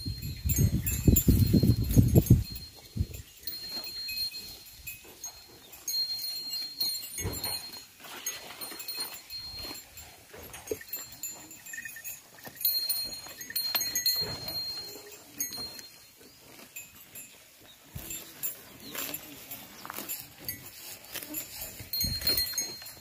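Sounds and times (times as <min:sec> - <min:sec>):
small birds chirping: 0:00.0 - 0:07.7, 0:10.6 - 0:21.4
cattle chewing grass: 0:00.0 - 0:23.0.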